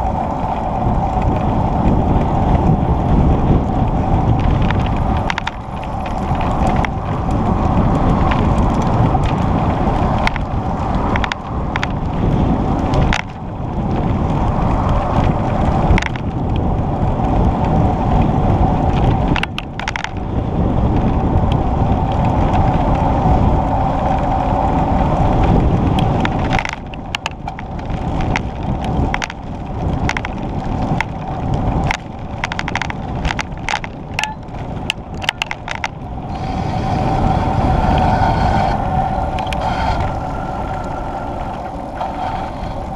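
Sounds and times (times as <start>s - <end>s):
bicycle rattling clicks: 0.0s - 42.9s
bicycle rumble: 0.0s - 42.9s
wind rushing over microphone: 0.0s - 42.9s.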